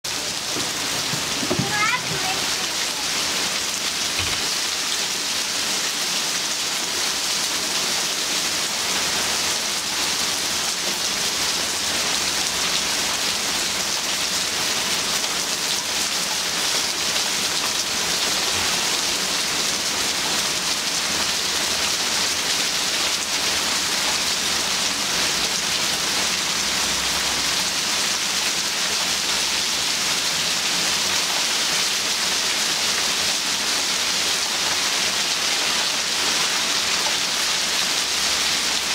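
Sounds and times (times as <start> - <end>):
heavy rain and hail: 0.1 - 38.9.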